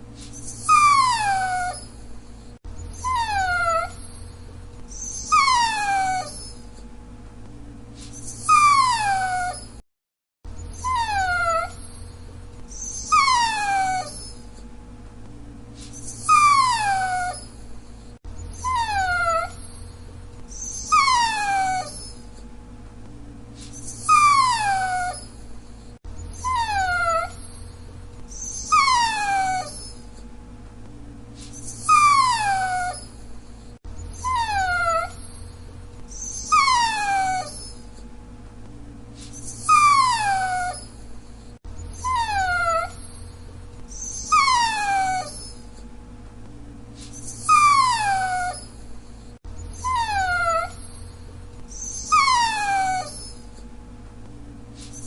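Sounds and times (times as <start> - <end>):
dog whining: 0.2 - 6.9, 8.0 - 9.8, 10.5 - 14.7, 15.8 - 22.5, 23.6 - 30.3, 31.4 - 38.1, 39.2 - 45.9, 47.0 - 53.7, 54.8 - 55.0.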